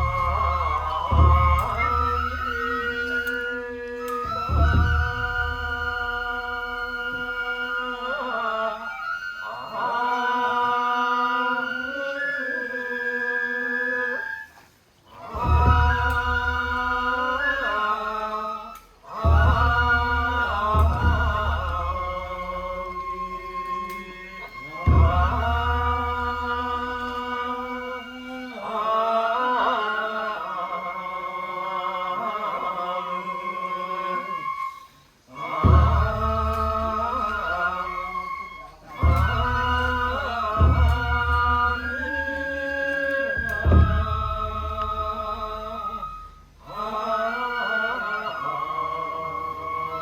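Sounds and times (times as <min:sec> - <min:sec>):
voices chanting in long notes: 0:00.0 - 0:50.0.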